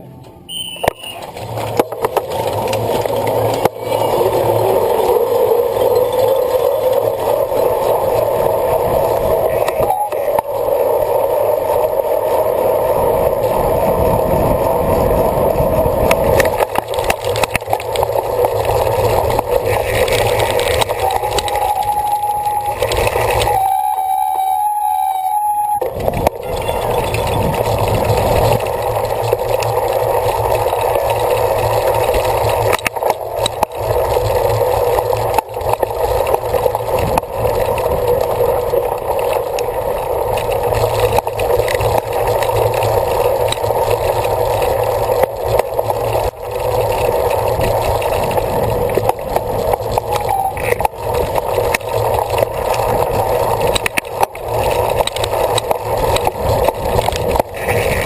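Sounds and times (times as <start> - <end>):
rushing of tyres and wind: 0.0 - 58.0
bike rattling and knocking: 0.2 - 23.9, 25.8 - 58.0.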